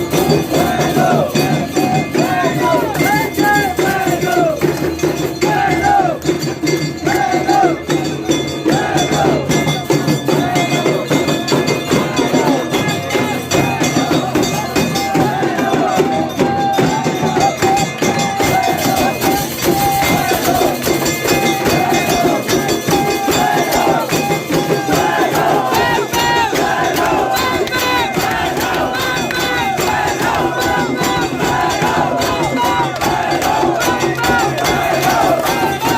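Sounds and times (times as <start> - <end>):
bells ringing: 0.0 - 35.9
cymbals ringing: 0.0 - 35.9
drums beating: 0.0 - 35.9
temple percussion clanging: 0.0 - 35.9.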